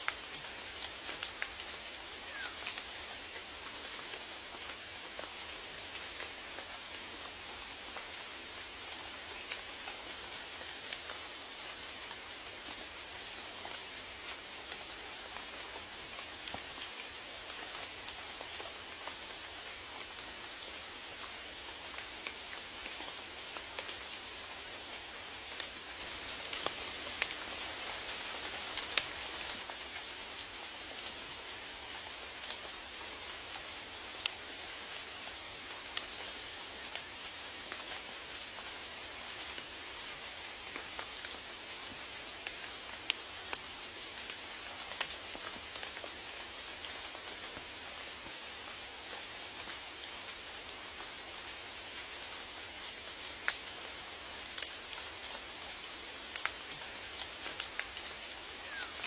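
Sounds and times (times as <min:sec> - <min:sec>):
raindrops hitting a surface: 0:00.0 - 0:59.0
steady rain hiss: 0:00.0 - 0:59.0.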